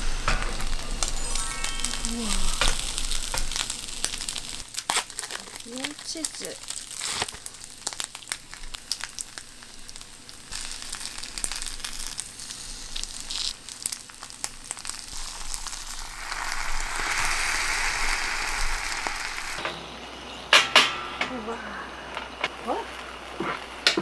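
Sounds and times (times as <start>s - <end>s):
rice sizzling in a hot pan: 0.0s - 20.2s, 22.0s - 24.0s.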